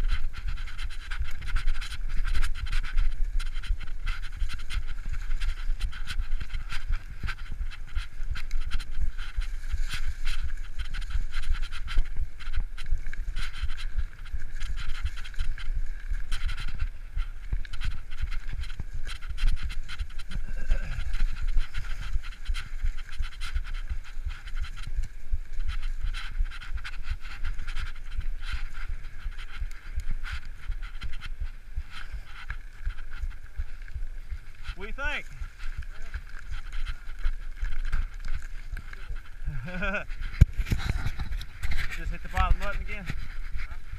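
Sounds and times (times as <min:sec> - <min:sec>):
tyres rustling over dry leaves: 0:00.0 - 0:43.9
wind rumble on microphone: 0:00.0 - 0:43.9.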